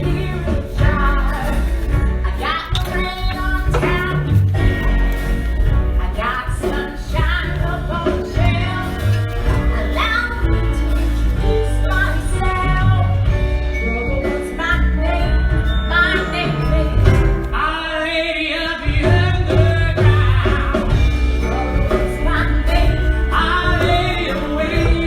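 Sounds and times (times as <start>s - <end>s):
band with steady bass line: 0.0s - 17.8s, 18.9s - 25.0s
woman singing: 0.0s - 25.0s.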